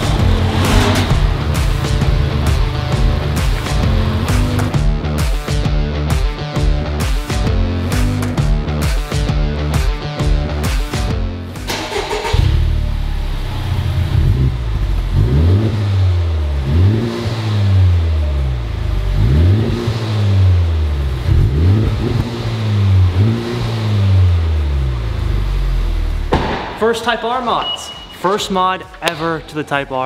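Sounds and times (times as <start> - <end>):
car engine idling and revving: 0.0 - 26.8.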